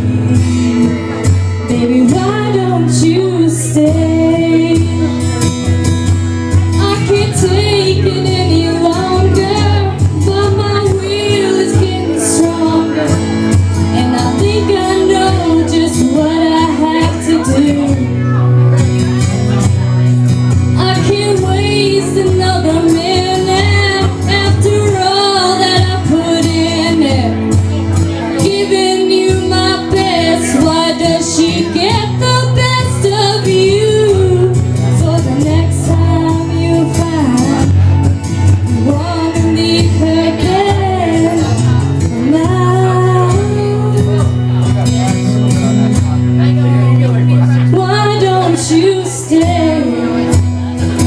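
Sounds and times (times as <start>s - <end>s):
woman singing a ballad: 0.0s - 5.7s, 6.6s - 18.4s, 20.7s - 44.6s, 47.5s - 50.4s
karaoke backing track: 0.0s - 51.0s.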